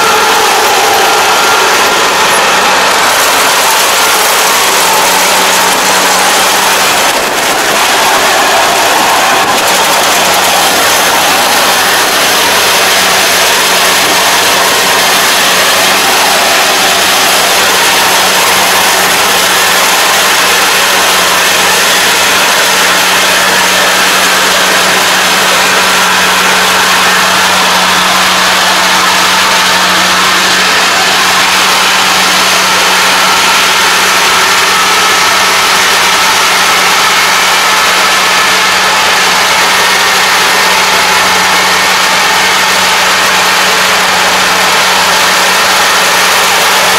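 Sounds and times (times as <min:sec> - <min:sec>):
combine harvester engine and threshing: 0:00.0 - 0:46.9.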